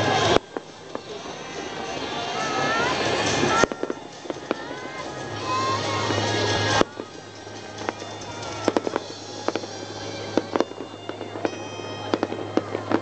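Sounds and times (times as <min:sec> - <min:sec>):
firework rushing noise: 0:00.0 - 0:13.0
fireworks bangs and cracks: 0:00.0 - 0:13.0
music: 0:00.0 - 0:13.0.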